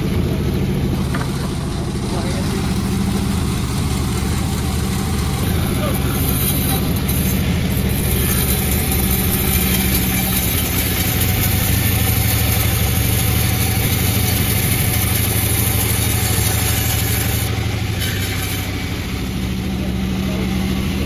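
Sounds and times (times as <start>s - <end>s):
two-stroke chainsaw running: 0.0s - 21.0s.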